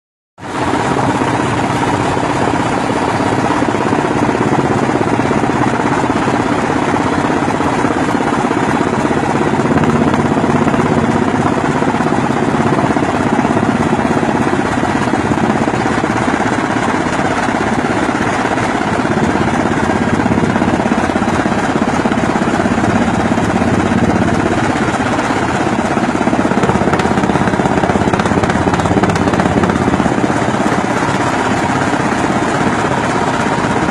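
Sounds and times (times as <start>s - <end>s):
helicopter engine and rotor: 0.4s - 33.9s.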